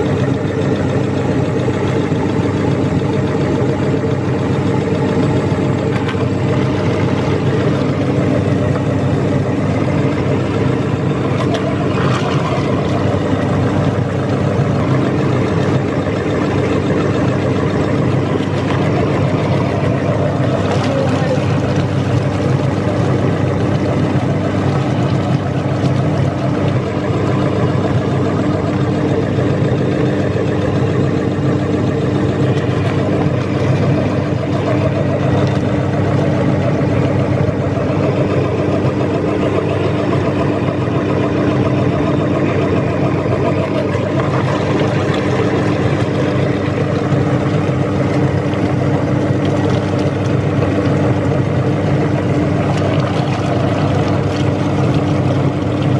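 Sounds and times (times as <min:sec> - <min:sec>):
meat grinder motor humming: 0:00.0 - 0:55.9.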